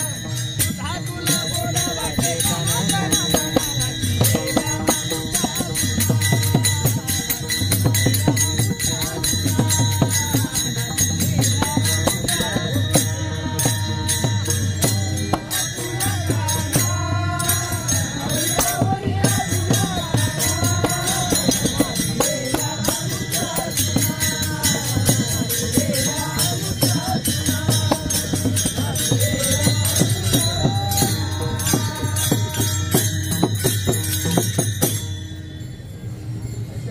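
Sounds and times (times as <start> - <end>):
men singing together: 0.0 - 34.6
hand cymbals clashing: 0.0 - 36.9.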